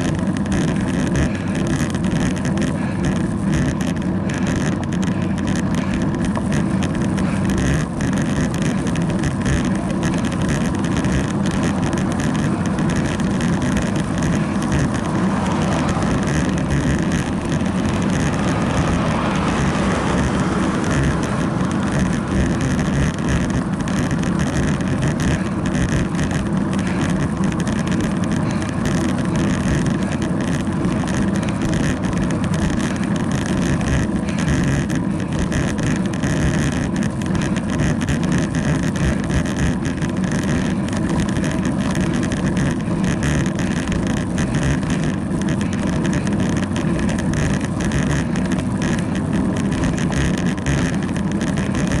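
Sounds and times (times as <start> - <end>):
tyre vibration on asphalt: 0.0 - 52.0.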